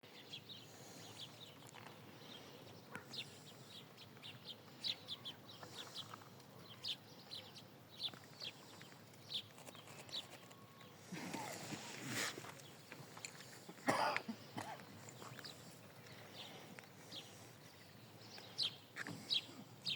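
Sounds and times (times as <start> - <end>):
small birds chirping: 0.0 - 19.9
faint outdoor hiss: 0.1 - 19.9.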